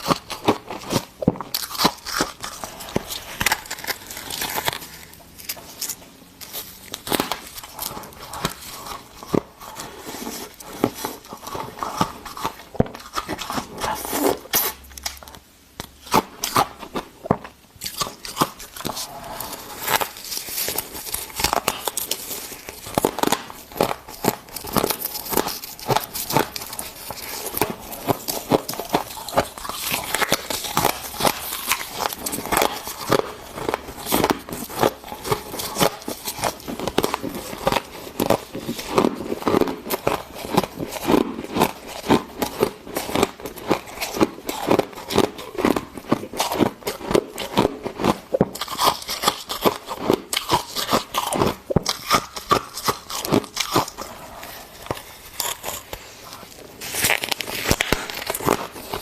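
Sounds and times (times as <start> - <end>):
chewing crunchy ice: 0.0 - 15.4, 17.8 - 59.0.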